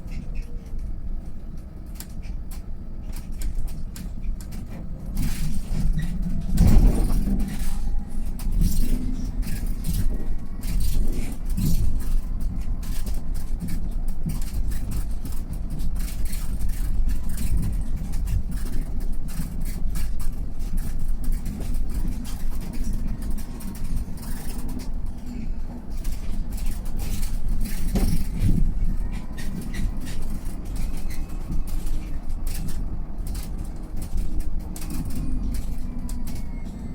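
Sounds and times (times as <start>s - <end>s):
rattles and knocks: 0.0s - 36.7s
bus driving rumble: 0.0s - 36.9s.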